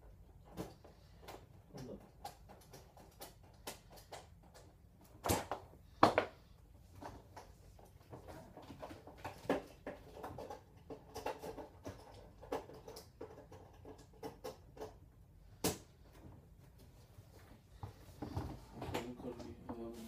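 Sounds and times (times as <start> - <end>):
clicks and knocks of objects handled: 0.1 - 16.9.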